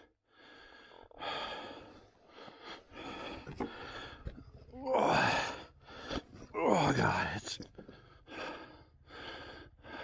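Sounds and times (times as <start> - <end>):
man breathing heavily: 0.0 - 6.6, 7.7 - 10.0.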